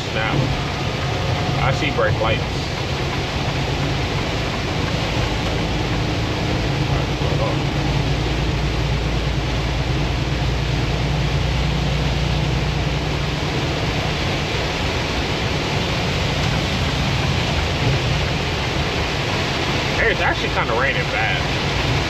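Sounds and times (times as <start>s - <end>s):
heavy rain and road spray: 0.0s - 22.0s
truck engine drone: 0.0s - 22.0s.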